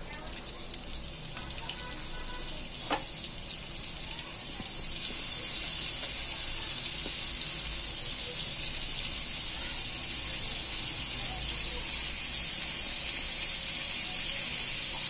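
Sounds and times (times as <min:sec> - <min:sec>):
oil and butter sizzling on griddle: 0:00.0 - 0:15.0.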